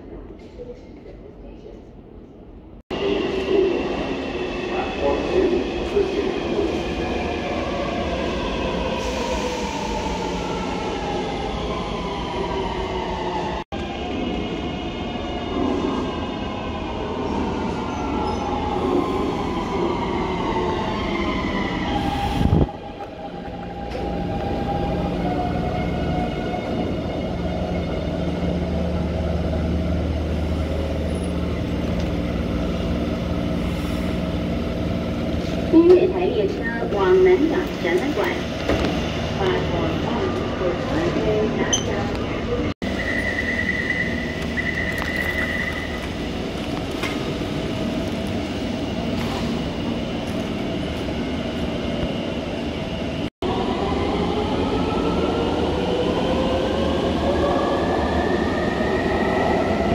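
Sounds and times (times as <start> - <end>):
train electric hum and whine: 0.0 - 59.9.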